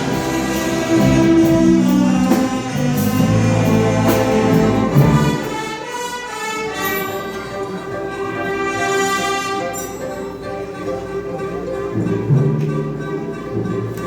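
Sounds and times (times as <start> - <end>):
orchestra playing: 0.0 - 14.0.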